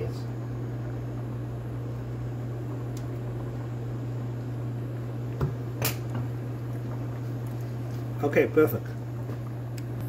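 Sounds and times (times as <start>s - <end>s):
low hum: 0.0s - 8.2s
water boiling in a pot: 0.0s - 10.0s.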